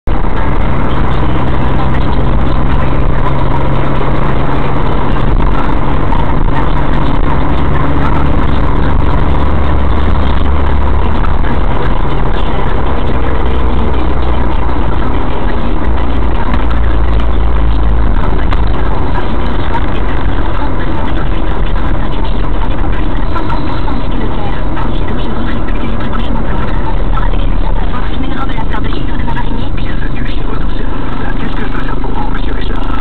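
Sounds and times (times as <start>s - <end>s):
car engine hum: 0.0s - 33.0s
road noise inside car: 0.0s - 33.0s.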